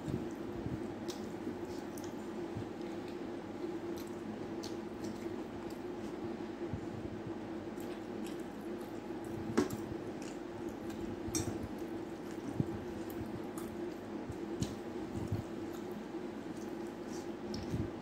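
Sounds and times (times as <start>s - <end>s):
wet squishing of food: 0.0s - 6.2s, 7.6s - 18.0s
steady low hum: 0.0s - 18.0s.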